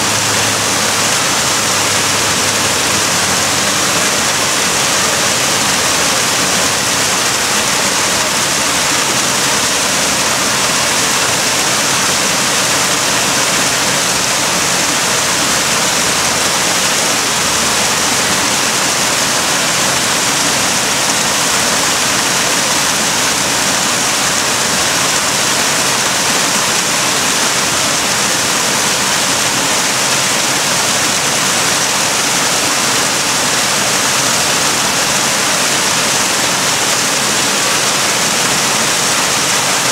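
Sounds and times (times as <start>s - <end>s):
waterfall pouring into pond: 0.0s - 39.9s.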